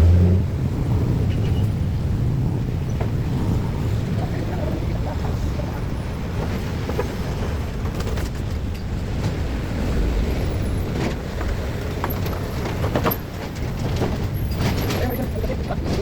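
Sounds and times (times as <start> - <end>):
road vehicles passing: 0.0 - 16.0.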